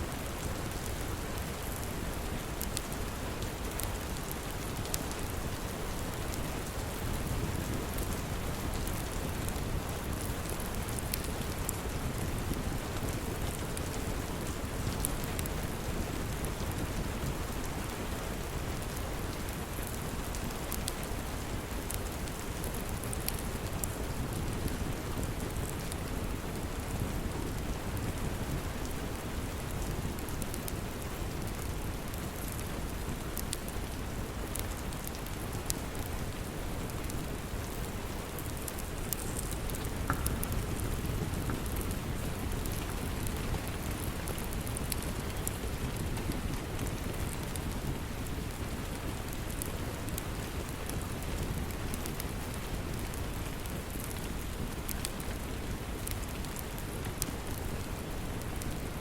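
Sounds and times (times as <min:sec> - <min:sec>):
faint log fire crackles: 0:00.0 - 0:59.0
steady rain falling: 0:00.0 - 0:59.0.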